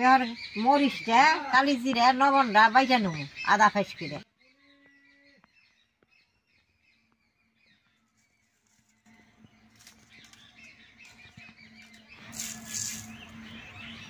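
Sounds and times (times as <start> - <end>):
faint bird chirps: 2.4 - 14.0.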